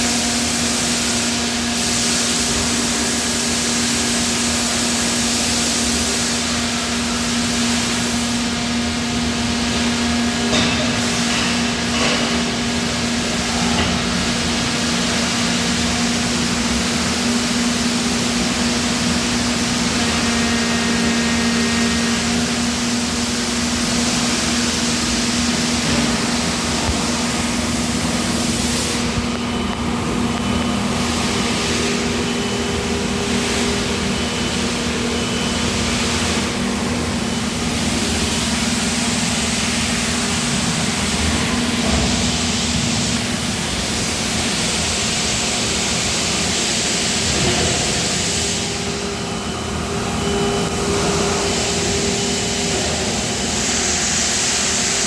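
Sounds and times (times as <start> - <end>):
die casting machine humming: 0.0 - 55.0.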